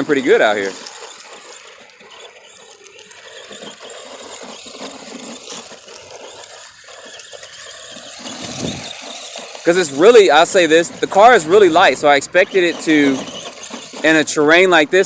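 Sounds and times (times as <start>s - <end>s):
rattly clicks on rough ground: 0.0s - 15.0s
rc truck motor whirring: 0.0s - 15.0s.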